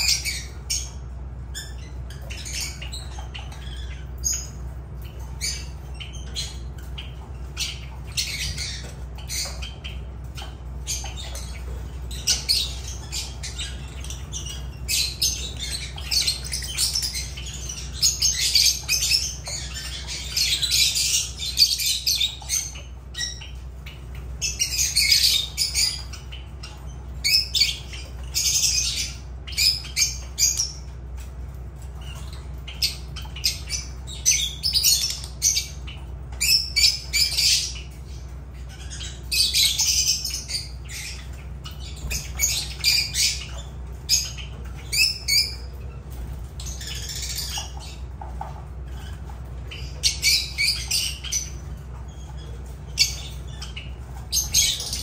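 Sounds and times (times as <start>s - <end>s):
lovebirds squawking: 0.0s - 55.0s.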